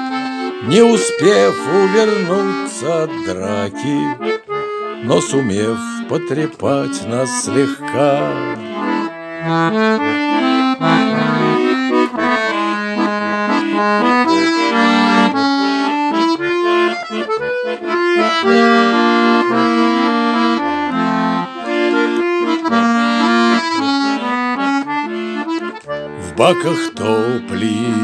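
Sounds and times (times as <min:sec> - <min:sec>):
quick busy melody: 0:00.4 - 0:24.2, 0:24.8 - 0:28.0
bass notes: 0:00.6 - 0:24.2, 0:24.8 - 0:28.0.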